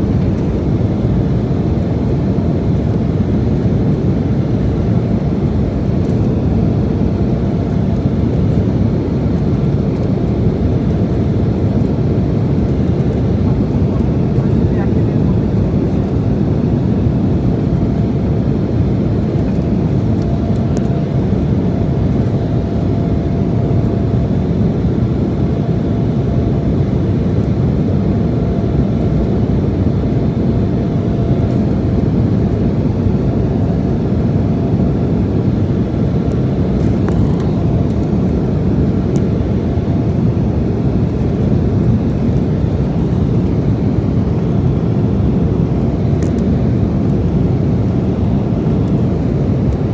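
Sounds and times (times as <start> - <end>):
aircraft cabin engine rumble: 0.0 - 49.9.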